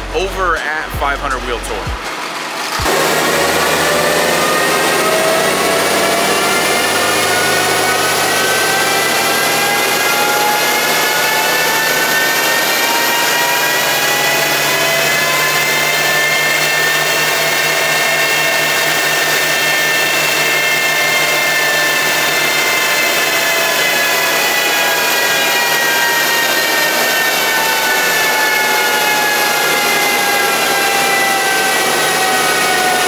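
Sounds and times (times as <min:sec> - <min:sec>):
car engine at full throttle: 0:00.0 - 0:33.0.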